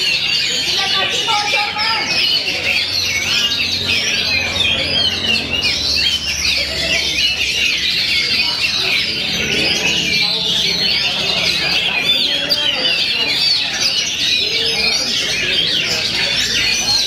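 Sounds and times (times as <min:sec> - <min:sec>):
birds singing in chorus: 0:00.0 - 0:17.0.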